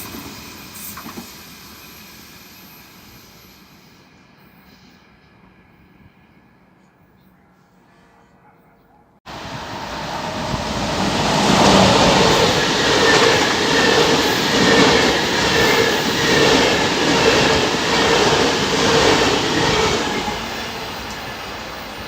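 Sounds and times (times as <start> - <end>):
train passing on rails: 0.0 - 8.3, 9.3 - 22.0.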